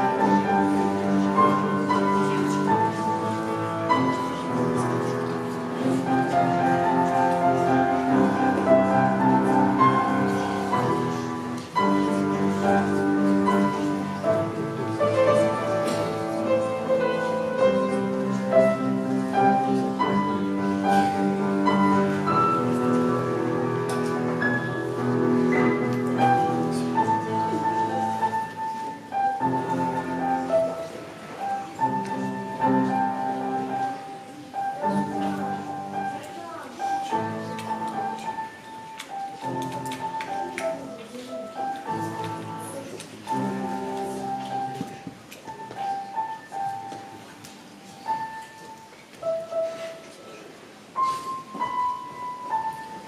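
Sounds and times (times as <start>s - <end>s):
solo piano chords and melody: 0.0s - 53.0s.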